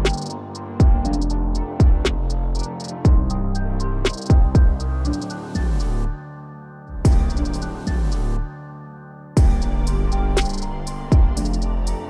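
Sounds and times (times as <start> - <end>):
ticking hi-hats: 0.0 - 6.0, 7.1 - 8.4, 9.4 - 12.0.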